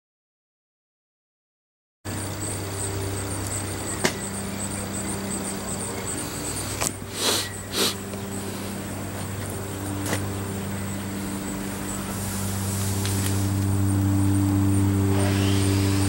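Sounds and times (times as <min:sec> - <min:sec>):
steady low hum: 0:02.1 - 0:16.0.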